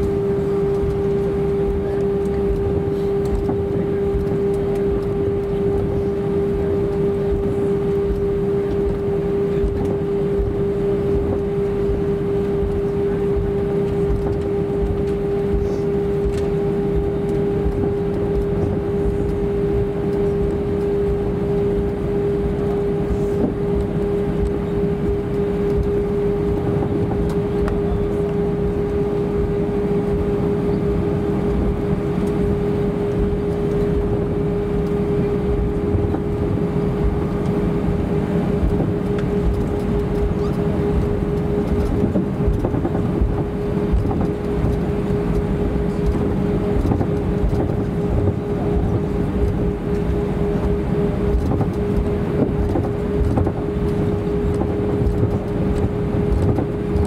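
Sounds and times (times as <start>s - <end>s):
aircraft cabin low rumble: 0.0s - 57.0s
steady engine hum: 0.0s - 57.0s.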